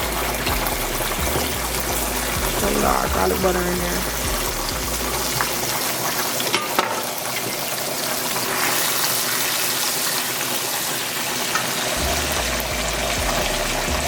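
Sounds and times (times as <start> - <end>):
butter sizzling in a skillet: 0.0 - 14.0
pot of water boiling: 0.0 - 14.0.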